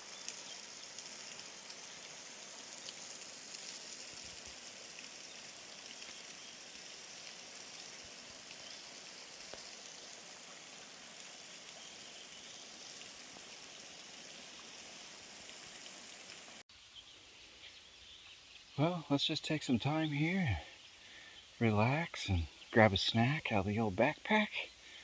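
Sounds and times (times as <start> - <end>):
outdoor background: 0.0 - 25.0.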